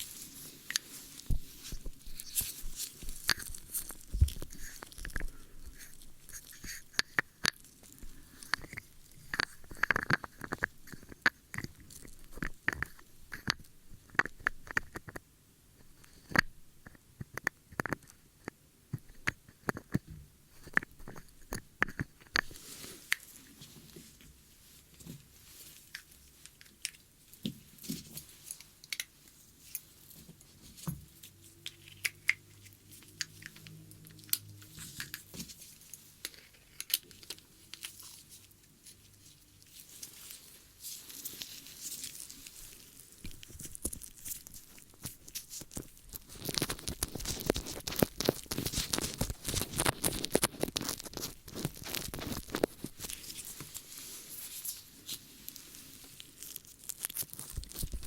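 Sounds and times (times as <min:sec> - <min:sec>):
tools scratching and crackling on ear: 0:00.0 - 0:58.0.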